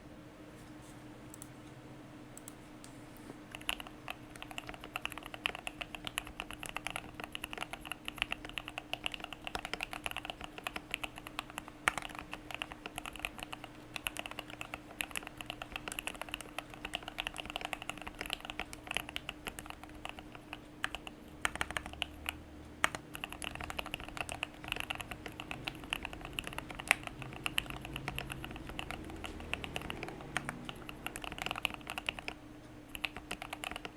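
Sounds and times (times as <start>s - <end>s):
faint steady hum: 0.0s - 33.9s
typing on mechanical keyboard: 3.5s - 33.9s.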